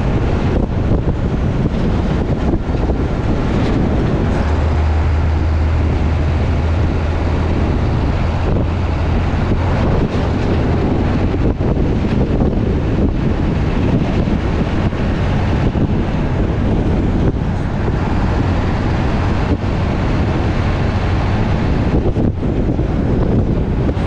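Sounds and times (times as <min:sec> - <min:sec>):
road noise: 0:00.0 - 0:24.0
truck engine drone: 0:00.0 - 0:24.0
wind buffeting microphone: 0:00.0 - 0:24.0.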